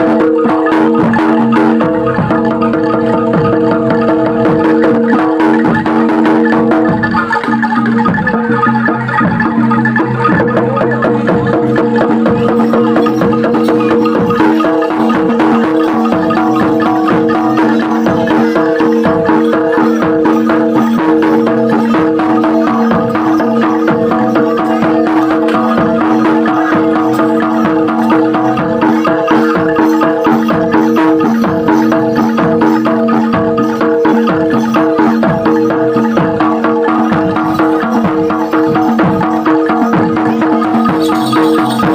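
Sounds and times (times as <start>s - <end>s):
metallophones ringing: 0.0s - 41.9s
rapid percussion strikes: 0.0s - 41.9s.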